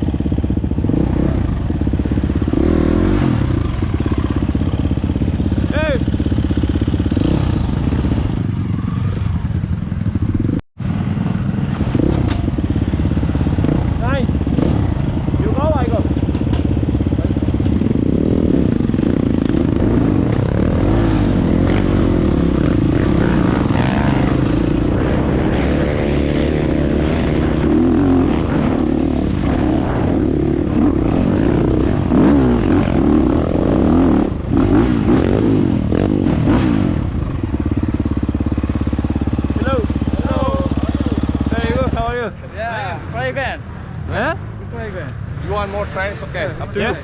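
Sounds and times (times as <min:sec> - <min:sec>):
dirt bike engine revving: 0:00.0 - 0:42.3.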